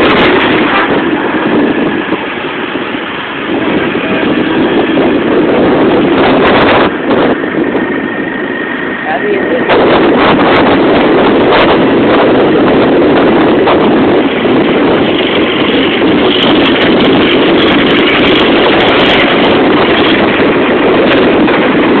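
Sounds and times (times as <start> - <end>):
wind buffeting phone microphone: 0.0 - 22.0.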